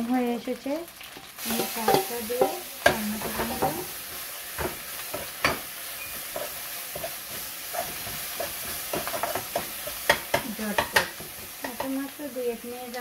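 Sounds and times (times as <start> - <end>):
greens sizzling in oil: 0.0 - 13.0
spoon stirring and scraping: 1.2 - 12.0
spoon knocking on pan: 1.6 - 12.1.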